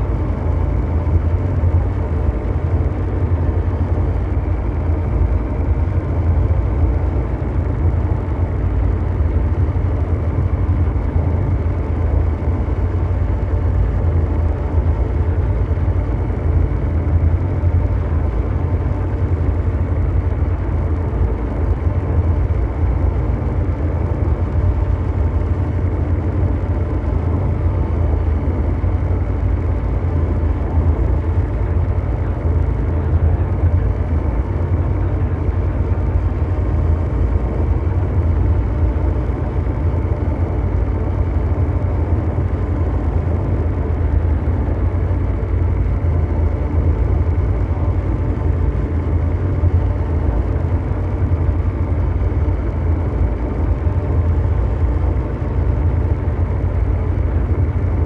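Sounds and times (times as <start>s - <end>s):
deep mechanical drone: 0.0s - 58.0s
faint steady hum tones: 0.0s - 58.0s.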